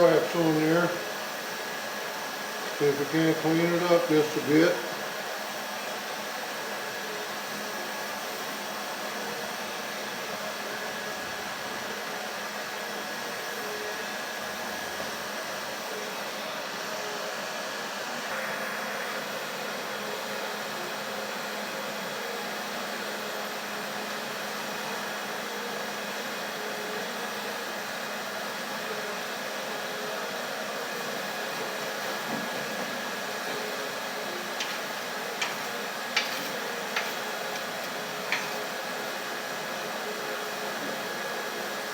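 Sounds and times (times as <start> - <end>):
forge blower and fire hissing: 0.0 - 41.9.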